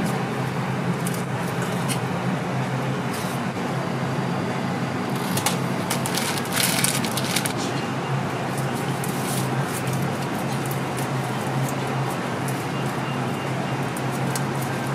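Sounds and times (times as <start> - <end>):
kitchen equipment hum: 0.0 - 14.9.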